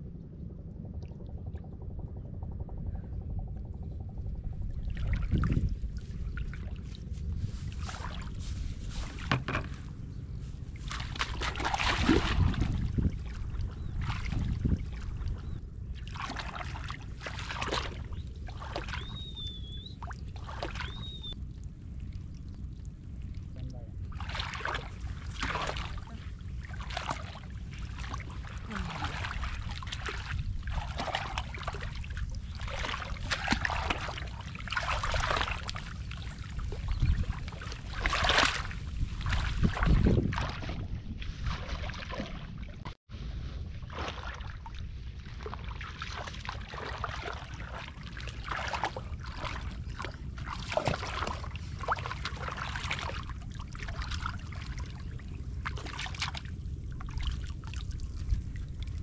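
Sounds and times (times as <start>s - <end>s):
wind rumble on microphone: 0.0s - 59.0s
muddy water splashing: 4.8s - 59.0s.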